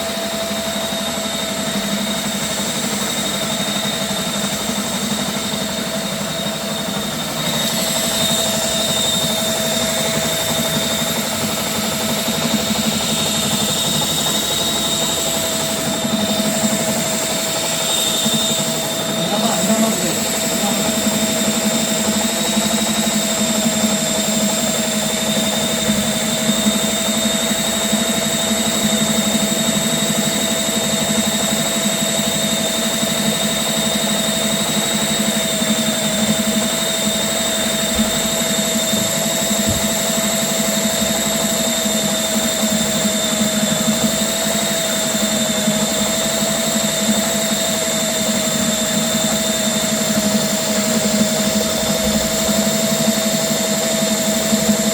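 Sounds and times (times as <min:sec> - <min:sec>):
drain cleaning machine whining: 0:00.0 - 0:54.9.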